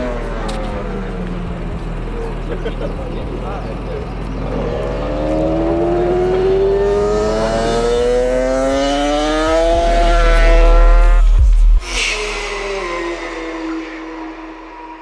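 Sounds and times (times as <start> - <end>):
racing motorcycle accelerating: 0.0 - 11.5, 12.6 - 15.0.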